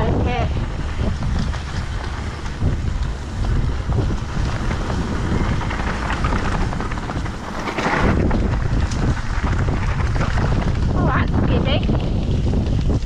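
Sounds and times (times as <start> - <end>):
bike tyres rattling on gravel: 0.0 - 13.0
wind buffeting microphone: 0.0 - 13.0.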